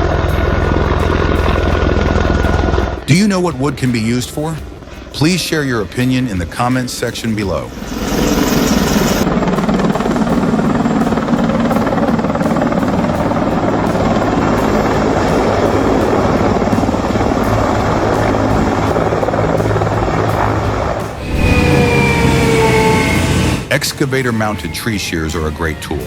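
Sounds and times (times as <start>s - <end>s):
helicopter engine and rotor: 0.0s - 3.0s, 5.9s - 23.7s.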